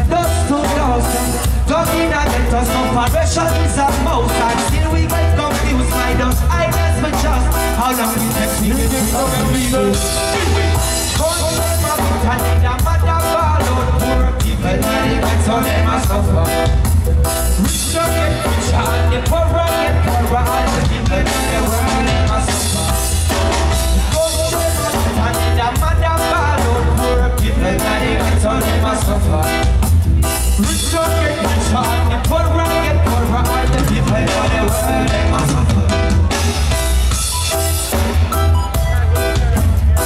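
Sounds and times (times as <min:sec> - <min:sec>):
person singing: 0:00.0 - 0:16.8, 0:17.4 - 0:36.6
reggae band playing live: 0:00.0 - 0:40.0.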